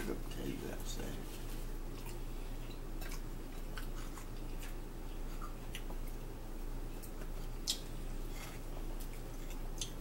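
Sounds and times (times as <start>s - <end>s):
low electrical hum: 0.0s - 10.0s
eating sounds: 1.5s - 10.0s.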